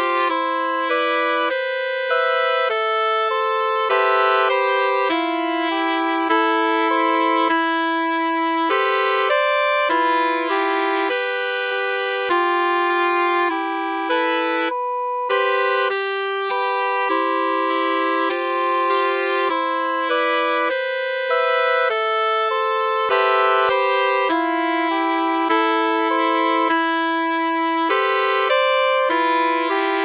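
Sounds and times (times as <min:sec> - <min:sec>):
sustained keyboard chords: 0:00.0 - 0:30.0.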